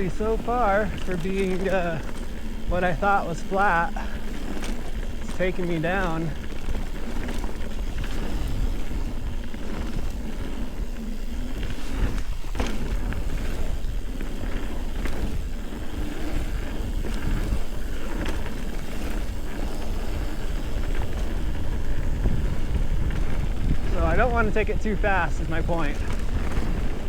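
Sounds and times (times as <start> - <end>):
bike knocking and rattling: 0.0 - 27.0
bike tyres on dirt trail: 0.0 - 27.0
wind rumble on microphone: 0.0 - 27.0.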